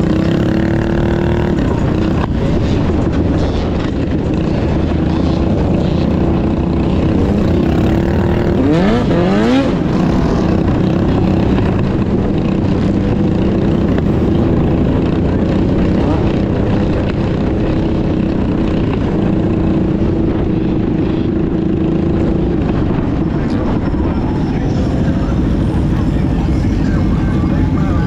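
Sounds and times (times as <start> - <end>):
bike engine revving: 0.0 - 28.0
mini bike engines running: 0.0 - 28.0.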